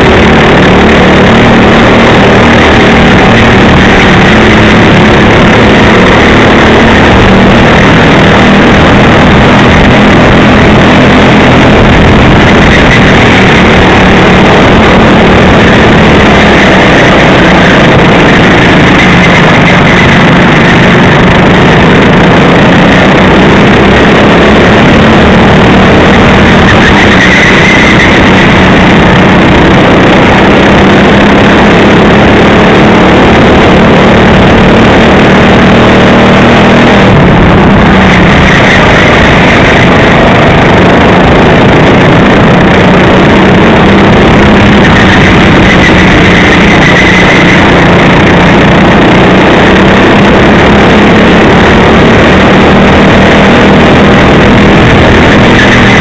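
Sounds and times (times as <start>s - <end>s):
kart engine at full throttle: 0.0s - 56.0s
rush of noise: 0.0s - 56.0s.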